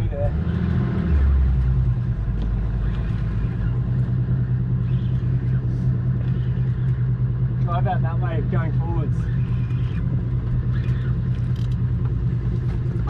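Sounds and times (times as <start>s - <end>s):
outboard motor running: 1.3s - 13.0s.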